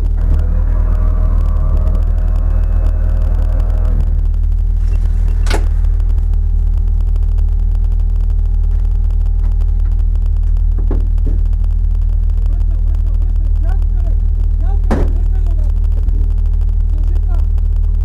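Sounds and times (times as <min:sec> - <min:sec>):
humming tone: 0:00.0 - 0:18.0.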